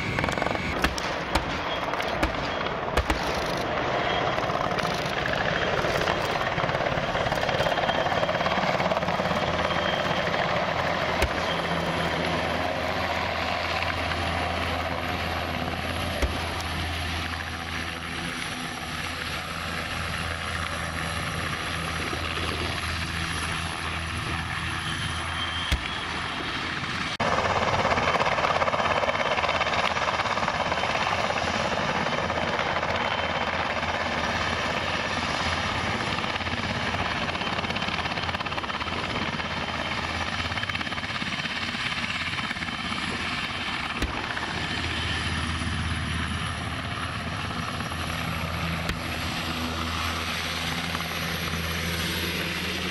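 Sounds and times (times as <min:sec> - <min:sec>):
helicopter rotor and turbine: 0:00.0 - 0:52.9.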